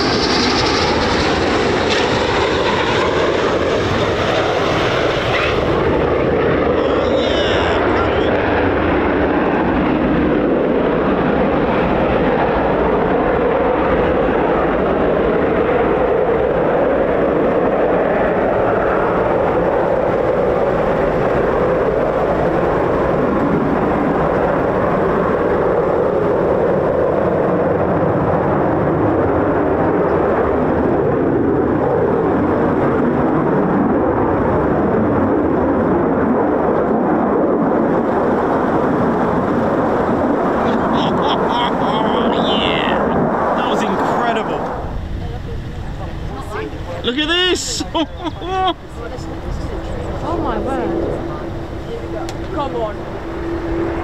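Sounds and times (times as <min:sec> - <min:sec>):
fighter jet engines roaring: 0:00.0 - 0:54.0.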